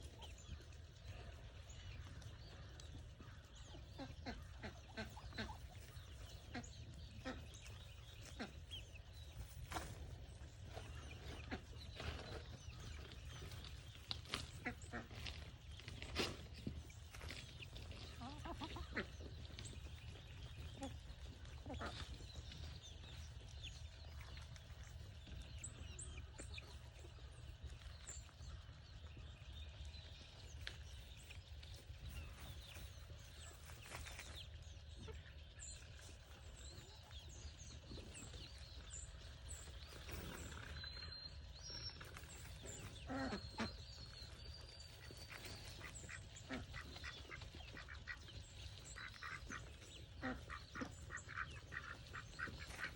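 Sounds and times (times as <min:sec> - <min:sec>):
farm birds calling: 0:00.0 - 0:52.9.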